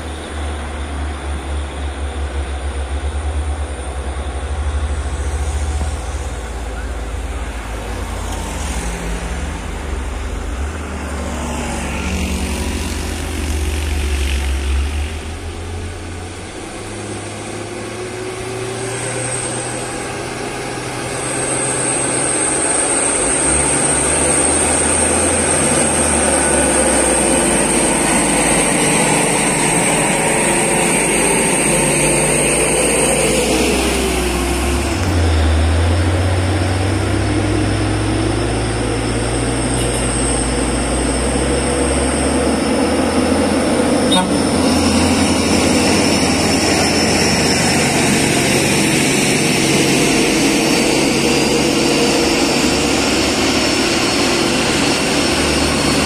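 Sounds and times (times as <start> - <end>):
high-pitched whine: 0.0 - 56.0
truck diesel engines labouring: 0.0 - 56.0.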